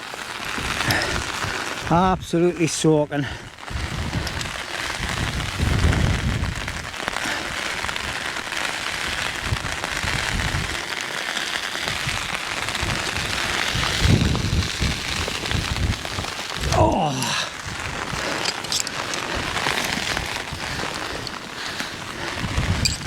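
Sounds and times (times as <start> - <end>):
heavy rain pouring: 0.0 - 23.0
wind buffeting microphone: 3.2 - 10.9, 11.8 - 23.0.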